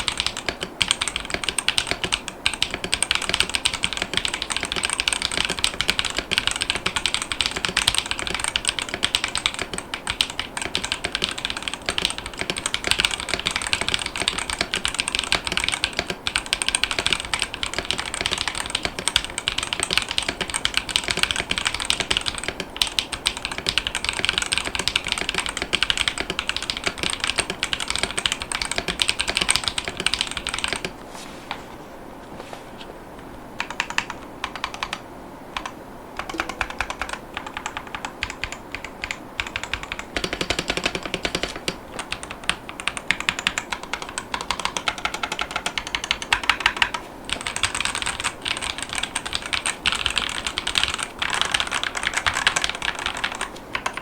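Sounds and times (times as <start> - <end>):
fast typing on mechanical keyboard: 0.0 - 31.0, 33.6 - 35.0, 35.6 - 54.0.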